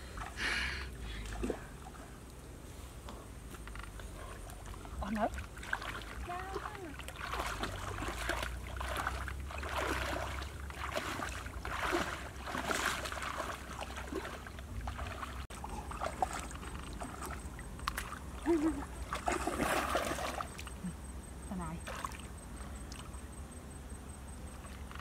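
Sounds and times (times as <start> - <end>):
muddy water sloshing: 0.0 - 2.6, 3.6 - 23.2.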